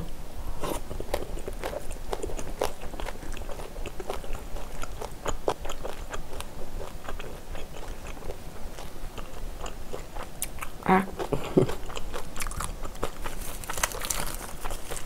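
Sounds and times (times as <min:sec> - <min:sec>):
wet chewing: 0:00.6 - 0:15.0.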